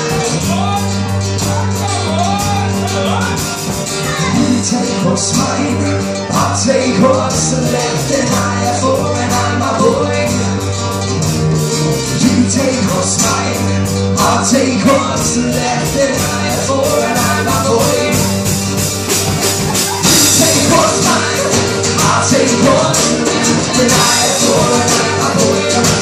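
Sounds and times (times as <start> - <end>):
rock band playing: 0.0 - 26.0
person singing: 1.5 - 10.7, 12.1 - 18.6, 19.4 - 26.0.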